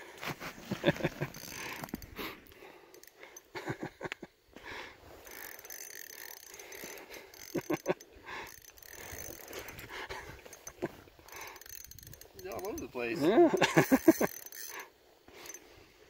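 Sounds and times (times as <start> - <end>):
fishing reel clicking: 1.2 - 3.5, 5.1 - 15.7.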